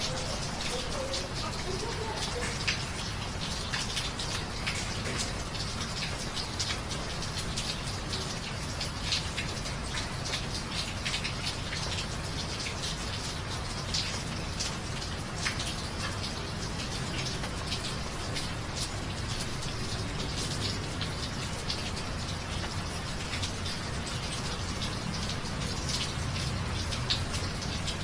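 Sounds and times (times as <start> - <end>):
raindrops hitting close by: 0.0 - 28.0
steady rain: 0.0 - 28.0.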